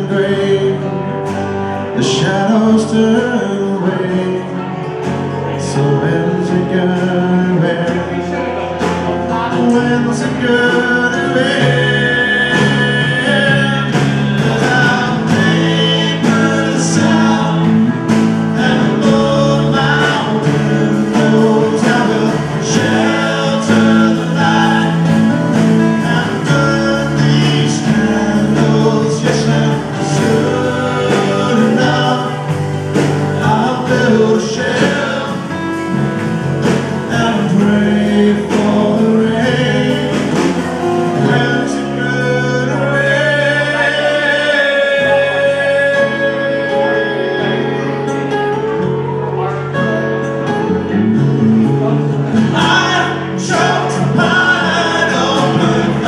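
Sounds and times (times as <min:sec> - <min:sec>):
live band with singing: 0:00.0 - 0:56.0.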